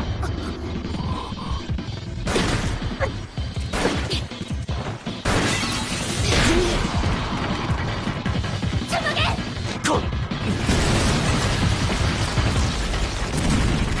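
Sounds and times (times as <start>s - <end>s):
dramatic soundtrack music: 0.0s - 14.0s.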